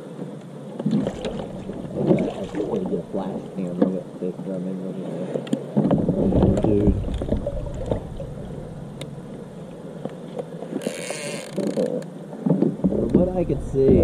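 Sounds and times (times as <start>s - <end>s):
water sloshing: 0.1s - 14.0s.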